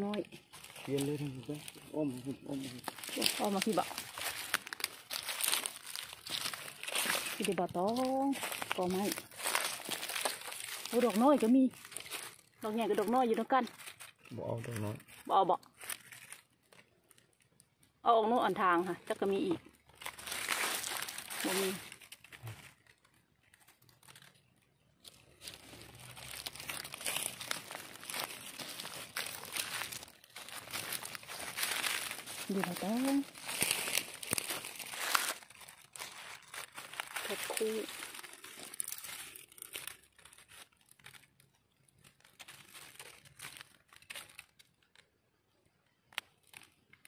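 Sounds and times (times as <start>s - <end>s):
dry leaves and twigs crackling: 0.0s - 47.0s.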